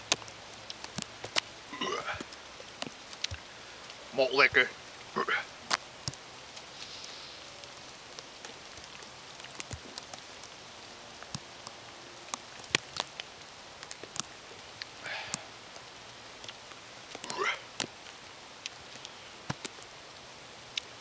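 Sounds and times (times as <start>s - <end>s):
steady hiss: 0.0s - 21.0s
wet snow ticking and dripping: 0.0s - 21.0s.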